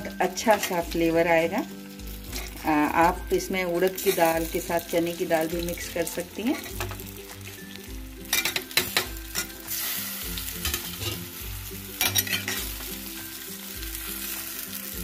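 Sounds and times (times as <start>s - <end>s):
spatula clinking and scraping pan: 0.0s - 1.2s, 2.0s - 4.6s, 6.1s - 14.7s
hot oil sizzling: 0.0s - 15.0s.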